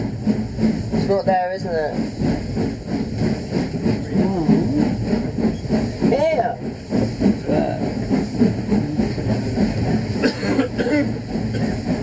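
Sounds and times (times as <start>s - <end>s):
train carriage rumbling and rattling: 0.0s - 12.0s.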